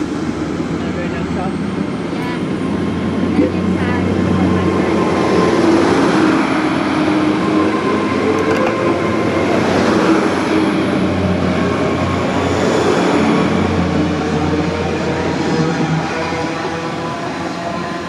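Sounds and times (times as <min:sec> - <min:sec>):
train engine drone: 0:00.0 - 0:18.0.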